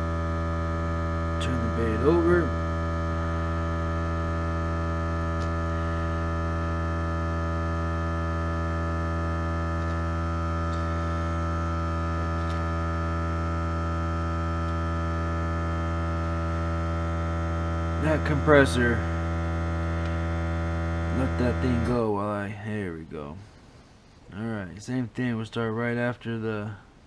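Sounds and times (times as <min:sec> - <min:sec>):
air compressor humming: 0:00.0 - 0:22.1.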